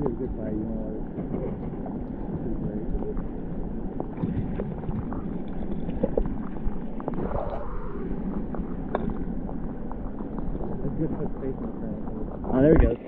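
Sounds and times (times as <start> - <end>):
muffled underwater river rushing: 0.0 - 13.0.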